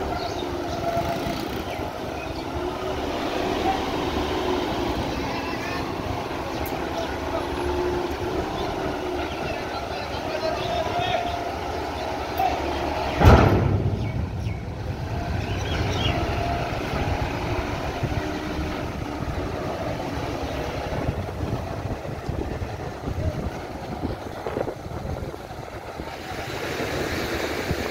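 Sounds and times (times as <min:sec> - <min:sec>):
bus engine running low: 0:00.0 - 0:27.9.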